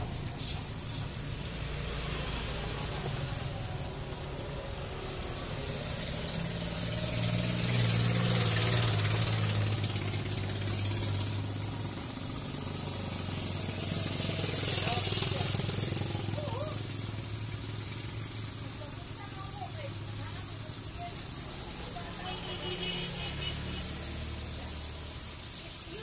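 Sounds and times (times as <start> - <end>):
hot oil sizzling and bubbling: 0.0 - 26.0.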